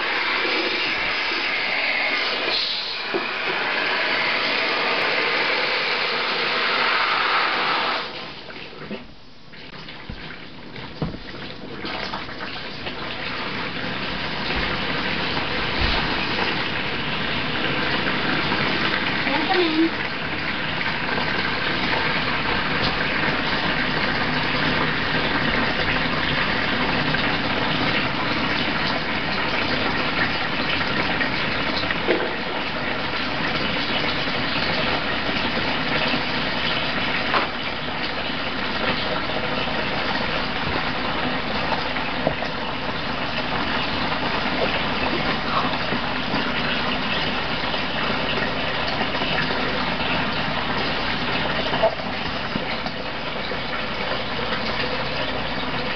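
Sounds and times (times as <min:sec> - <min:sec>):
water gushing: 0:00.0 - 0:55.9.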